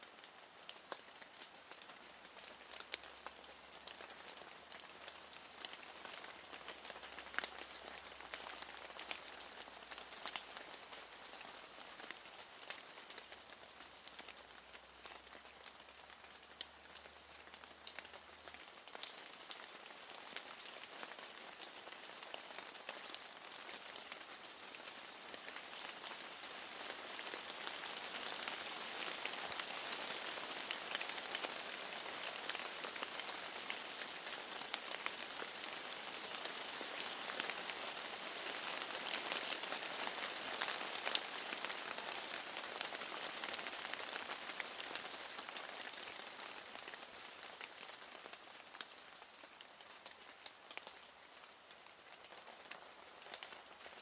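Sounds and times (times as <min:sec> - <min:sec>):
rain on hard surface: 0:00.0 - 0:54.0.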